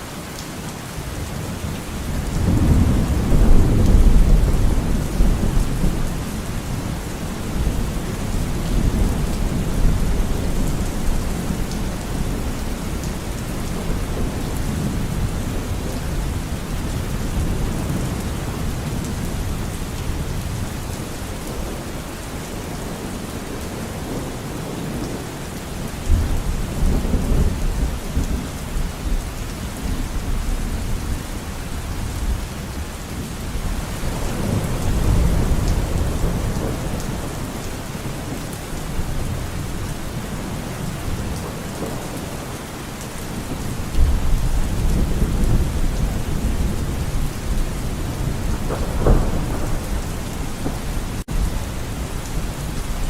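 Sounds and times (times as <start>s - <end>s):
rain in a forest: 0.0s - 53.0s
low thunder rumbling: 1.9s - 23.1s, 26.0s - 42.6s, 43.2s - 53.0s.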